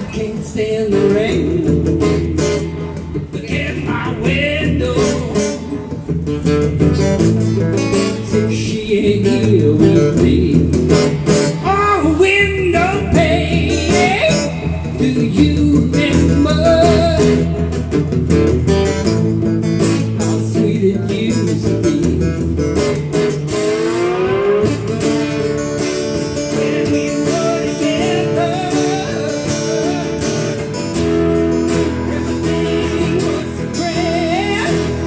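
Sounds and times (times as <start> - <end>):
man singing: 0.0 - 18.1, 19.1 - 22.9, 24.4 - 35.0
acoustic guitar strummed: 0.0 - 35.0.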